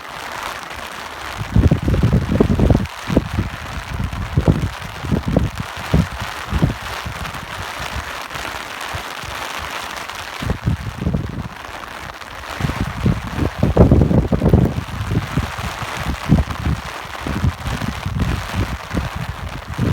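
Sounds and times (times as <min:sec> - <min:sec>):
steady rain hiss: 0:00.0 - 0:19.9
wind buffeting microphone: 0:01.3 - 0:08.5, 0:10.2 - 0:19.9.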